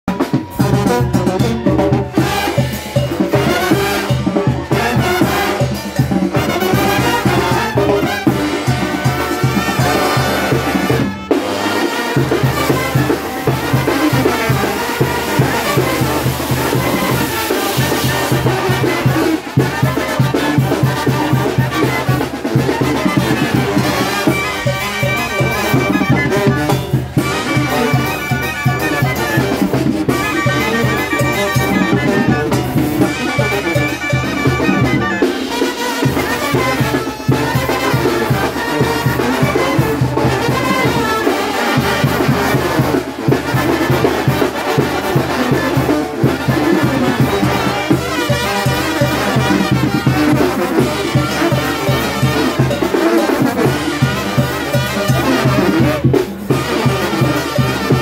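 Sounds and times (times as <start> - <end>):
brass band playing: 0.0 - 58.0
clarinets playing melody: 0.2 - 58.0.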